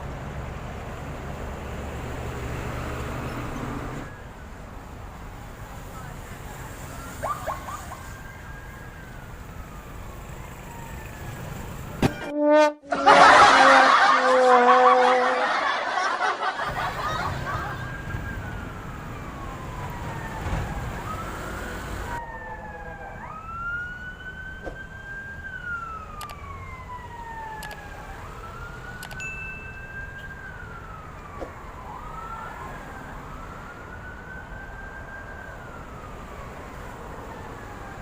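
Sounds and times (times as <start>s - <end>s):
siren wailing: 6.0s - 29.2s, 29.8s - 38.0s.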